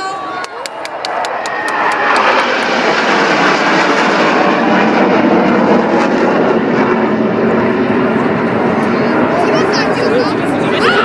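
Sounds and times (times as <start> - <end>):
aircraft passing overhead: 0.0 - 11.0.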